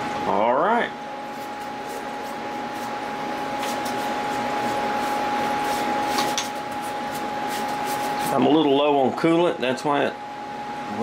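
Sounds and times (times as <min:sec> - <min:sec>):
shop machinery whirring hum: 0:00.0 - 0:11.0.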